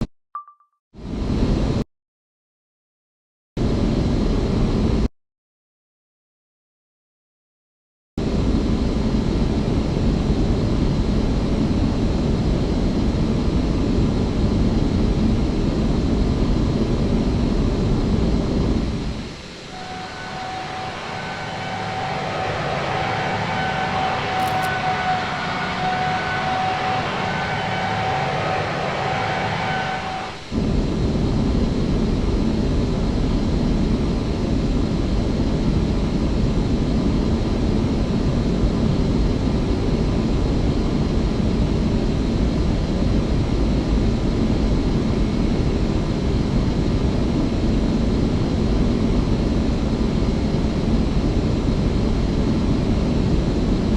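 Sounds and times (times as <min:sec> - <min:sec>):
jet engines whining and roaring: 0:08.2 - 0:53.9.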